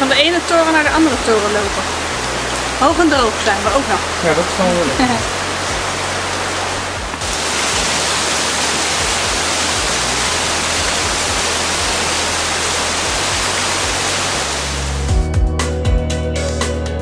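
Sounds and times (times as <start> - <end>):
heavy rain pouring: 0.0 - 15.2.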